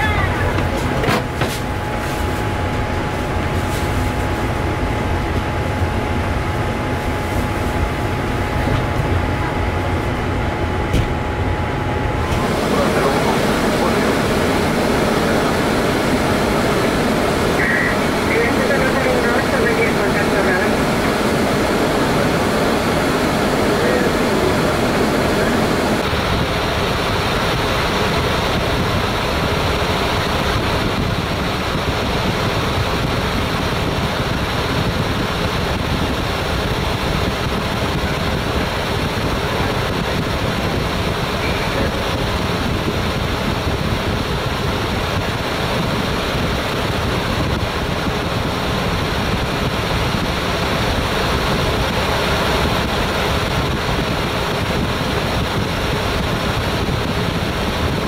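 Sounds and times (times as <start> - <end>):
air conditioning hiss: 0.0 - 58.0
air rushing past cockpit: 0.0 - 58.0.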